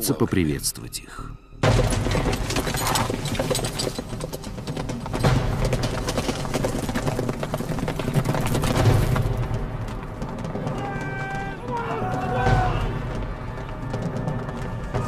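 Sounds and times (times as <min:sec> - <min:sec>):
horses galloping: 0:01.6 - 0:15.0.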